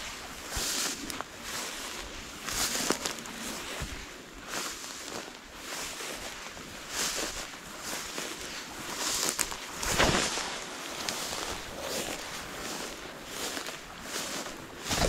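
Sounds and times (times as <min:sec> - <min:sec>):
footsteps through dry grass: 0:00.0 - 0:15.0.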